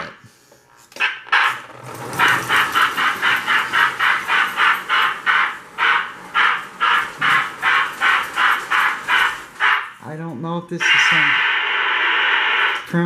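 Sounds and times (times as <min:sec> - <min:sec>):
hissing steam chuffs: 0:01.3 - 0:13.0.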